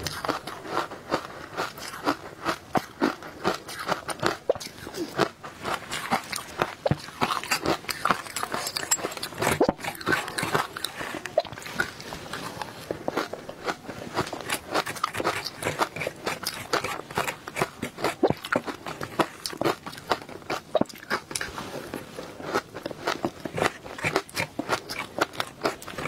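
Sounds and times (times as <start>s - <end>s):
crunching and chewing ice: 0.0s - 26.0s.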